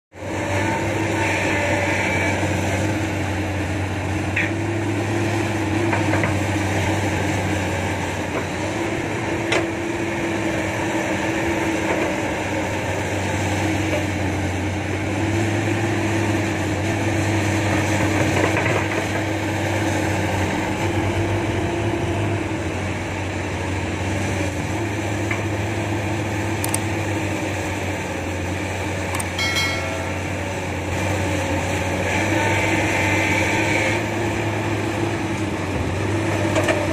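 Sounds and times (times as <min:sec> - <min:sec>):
excavator diesel engine running: 0:00.2 - 0:36.9.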